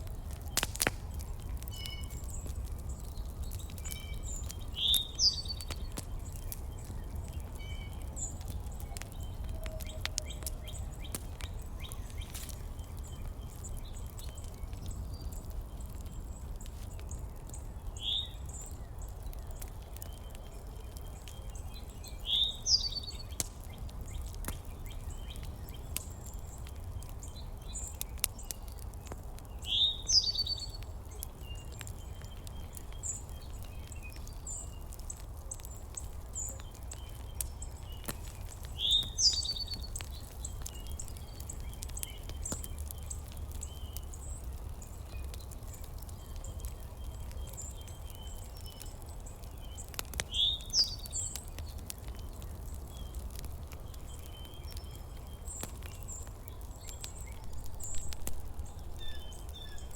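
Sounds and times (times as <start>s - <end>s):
faint ticks and chirps: 0.2s - 59.9s.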